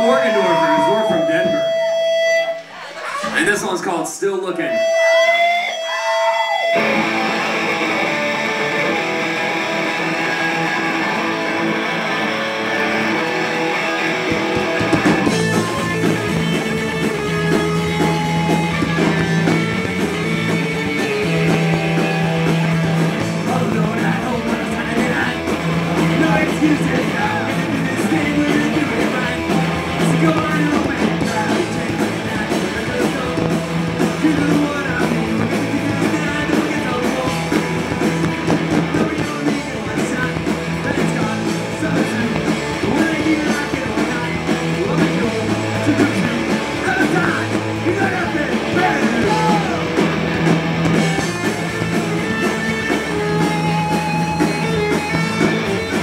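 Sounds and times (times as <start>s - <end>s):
electric guitar: 0.0s - 3.7s, 4.5s - 56.0s
bass guitar: 0.0s - 56.0s
drums: 0.0s - 56.0s.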